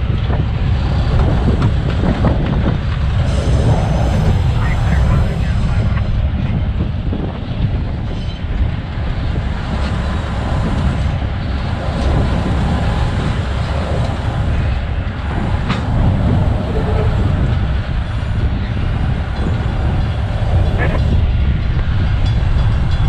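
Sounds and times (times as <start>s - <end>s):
locomotive engine rumble: 0.0s - 23.0s
wheels on rails: 0.0s - 23.0s.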